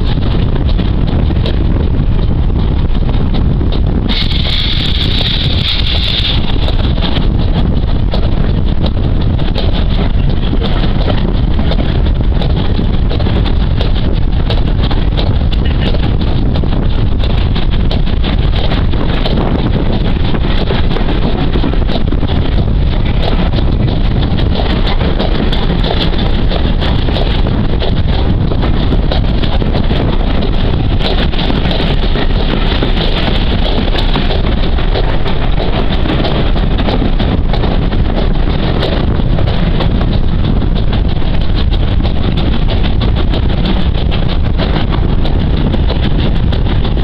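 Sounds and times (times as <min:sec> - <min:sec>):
low rumble of train running: 0:00.0 - 0:47.0
wind noise on microphone: 0:00.0 - 0:47.0.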